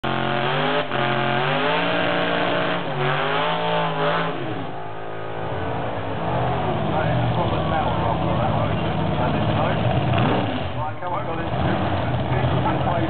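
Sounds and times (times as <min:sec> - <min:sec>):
engine revving hard: 0:00.0 - 0:04.8, 0:06.3 - 0:13.0.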